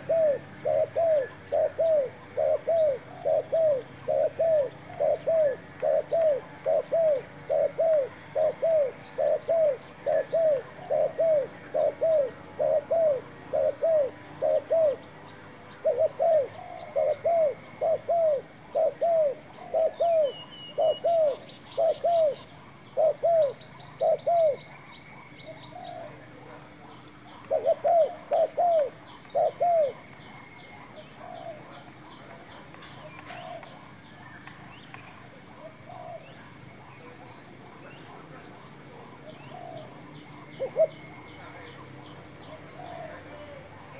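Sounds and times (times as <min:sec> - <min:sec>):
dove cooing: 0:00.0 - 0:24.9, 0:27.3 - 0:33.8, 0:35.4 - 0:41.8, 0:42.4 - 0:43.9.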